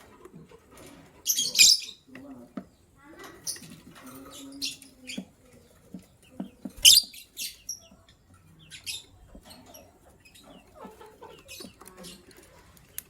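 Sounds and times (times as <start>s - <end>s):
birds chirping high-pitched: 1.2s - 13.0s.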